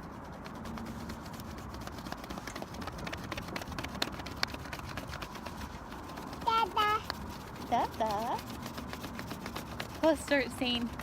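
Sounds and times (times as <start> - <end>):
crayon scratching on paper: 0.0 - 11.0.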